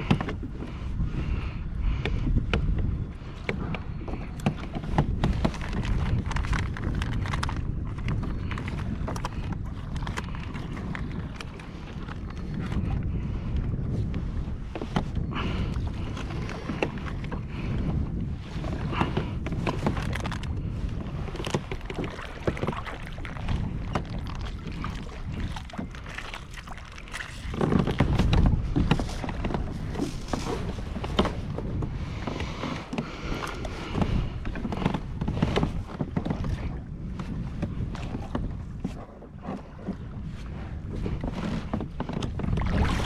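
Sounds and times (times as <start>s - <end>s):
water sloshing against hull: 0.0s - 43.0s
wind on microphone: 0.0s - 43.0s.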